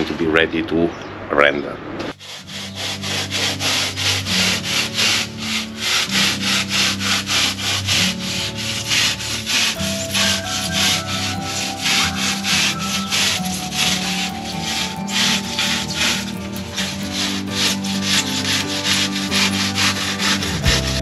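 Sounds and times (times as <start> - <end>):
hand saw rasping through foam: 2.2 - 21.0.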